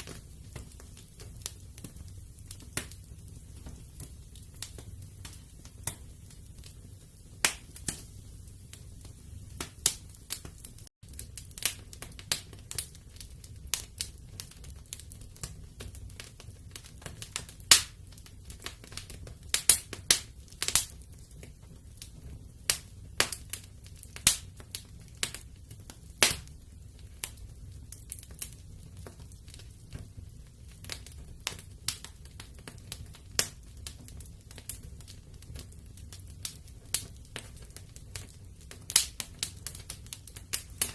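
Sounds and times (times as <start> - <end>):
fire crackling and popping: 0.0 - 40.9
low steady fire rumble: 0.0 - 40.9.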